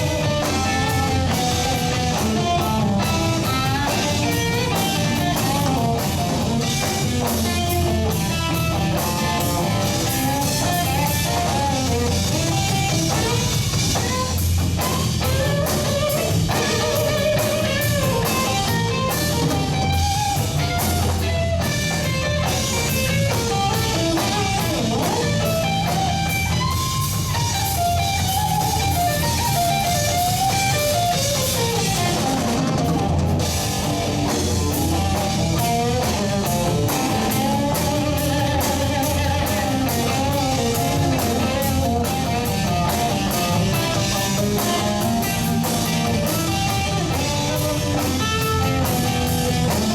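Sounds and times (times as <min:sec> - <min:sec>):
drum kit: 0:00.0 - 0:49.9
electric guitar melody: 0:00.0 - 0:49.9.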